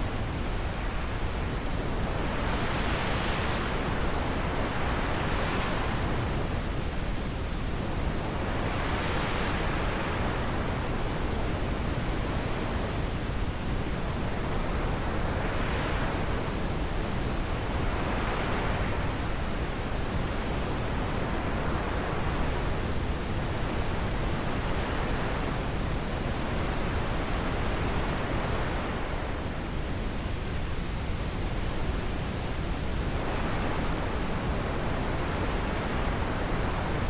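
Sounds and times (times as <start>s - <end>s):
wind blowing in gusts: 0.0s - 37.0s.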